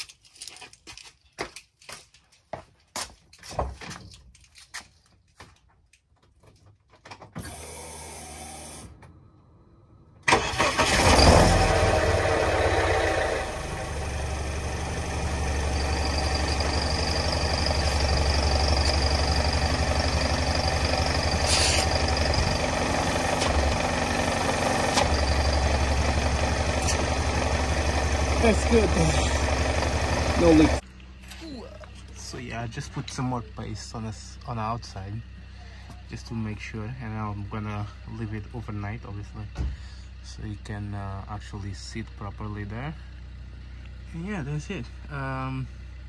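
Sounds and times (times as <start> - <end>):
car engine starting and idling: 7.4 - 46.0.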